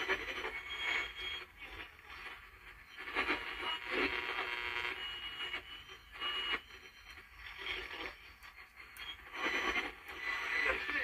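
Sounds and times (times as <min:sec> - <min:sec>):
high radio whistle: 0:00.0 - 0:11.0
radio static and hiss: 0:00.0 - 0:11.0
snatches of broadcast sound: 0:00.0 - 0:11.0.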